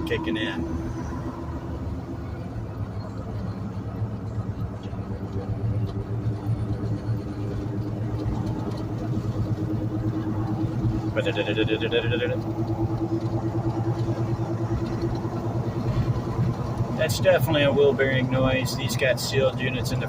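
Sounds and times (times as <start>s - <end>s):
wheel bearing droning: 0.0s - 20.0s.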